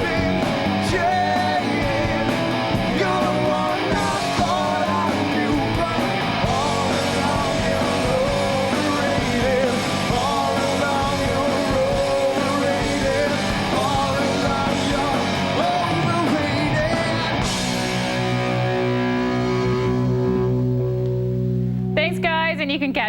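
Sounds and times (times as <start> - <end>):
rock band playing live: 0.0 - 22.8.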